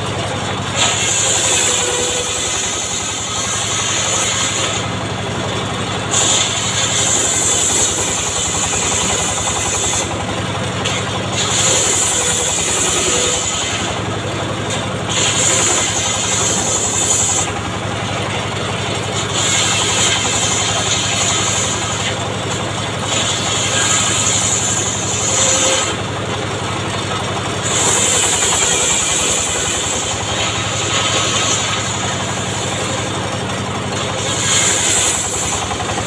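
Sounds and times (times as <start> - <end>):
saw cutting whine: 0.0 - 36.0
saw engine running: 0.0 - 36.0.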